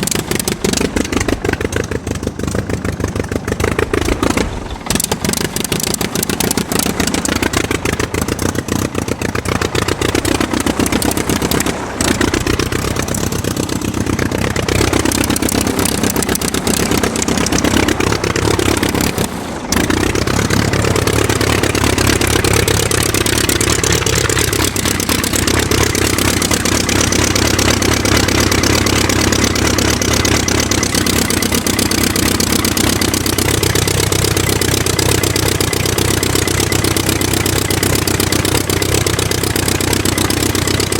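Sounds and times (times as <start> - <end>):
aircraft engine running: 0.0 - 40.9.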